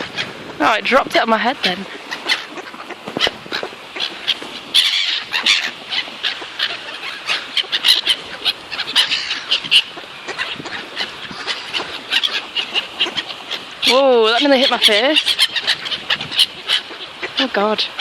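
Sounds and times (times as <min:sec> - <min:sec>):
flock of birds calling: 0:00.0 - 0:18.0.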